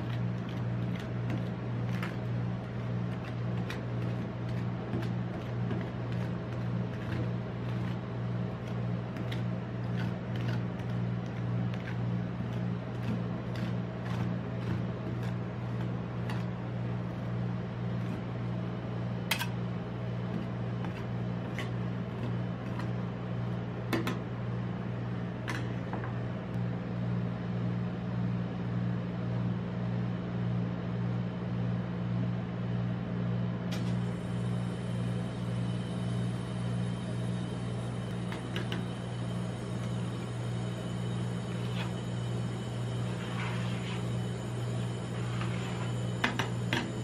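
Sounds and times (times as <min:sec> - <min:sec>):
compressor humming: 0:00.0 - 0:26.6, 0:33.6 - 0:47.0.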